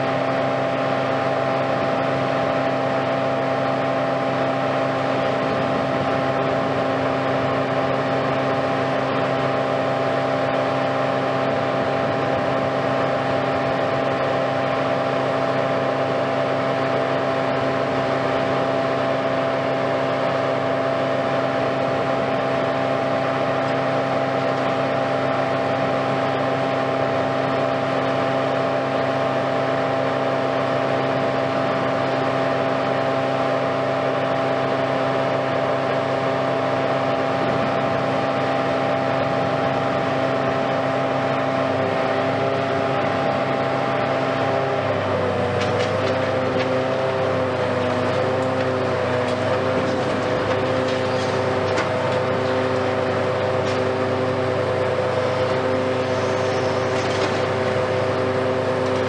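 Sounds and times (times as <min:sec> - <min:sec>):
excavator engine and hydraulics drone: 0:00.0 - 0:59.0.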